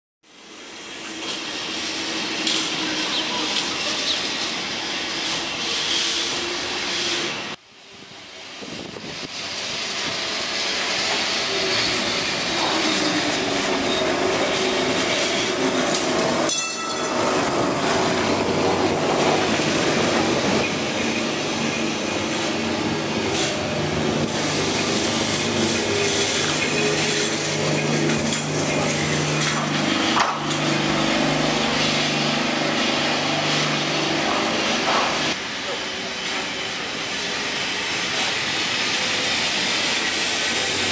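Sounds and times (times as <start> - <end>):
tram wheels rumbling on rails: 0.3 - 40.9.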